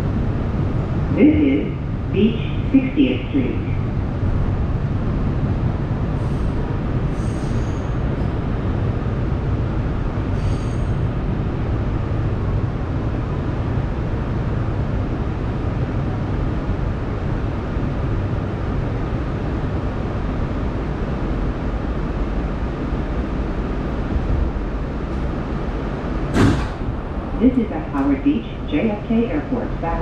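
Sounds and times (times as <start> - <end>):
subway train wheels rumbling: 0.0 - 30.0.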